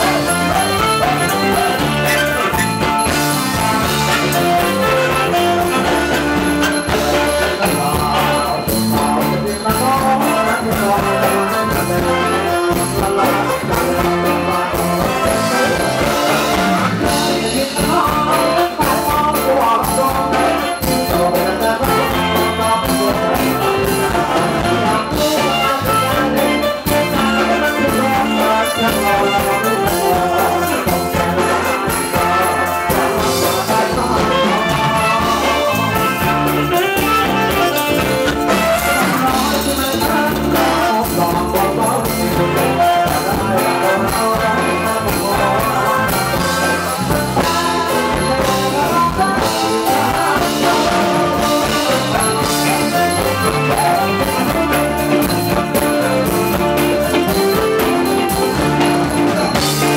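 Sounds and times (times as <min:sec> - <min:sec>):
live band dance music: 0:00.0 - 0:59.9.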